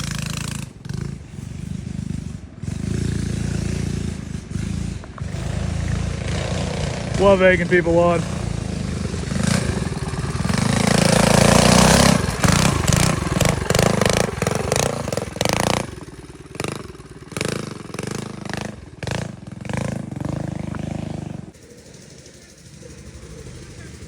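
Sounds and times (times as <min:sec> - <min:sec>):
minibike engines revving: 0:00.0 - 0:24.0.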